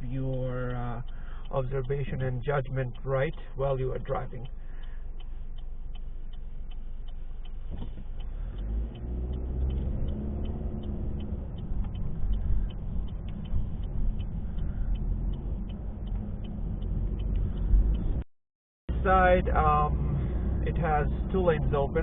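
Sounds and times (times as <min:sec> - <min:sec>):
car engine rumble: 0:00.0 - 0:18.3, 0:18.9 - 0:22.0
road noise: 0:00.0 - 0:18.3, 0:18.9 - 0:22.0.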